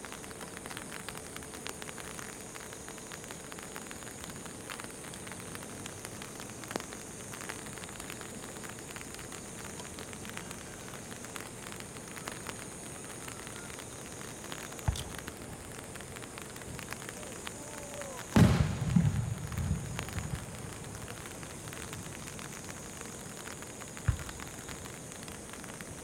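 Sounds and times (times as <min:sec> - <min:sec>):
rain pattering on an umbrella: 0:00.0 - 0:26.0.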